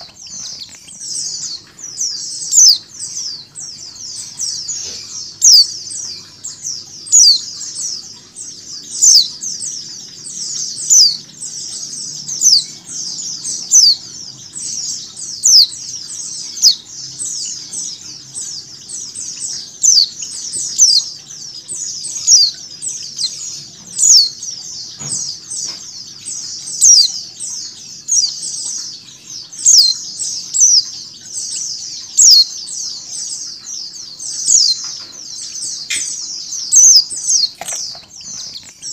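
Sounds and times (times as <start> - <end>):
bird calling repeatedly: 0.0 - 38.9
flock of birds chattering: 0.0 - 38.9.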